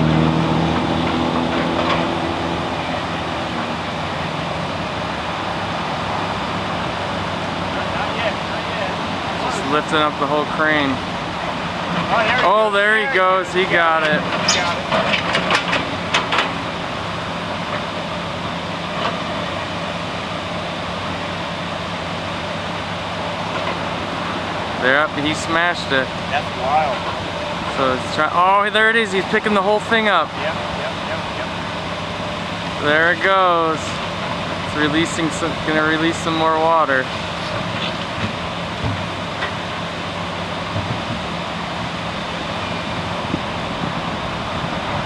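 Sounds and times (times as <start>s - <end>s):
excavator diesel engine running: 0.0s - 45.0s
floodwater rushing: 0.0s - 45.0s.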